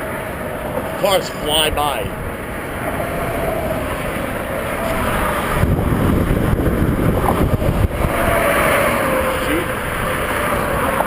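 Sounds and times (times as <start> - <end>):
heavy low rumble: 0.0 - 11.0
tyres rushing on road: 0.0 - 11.0.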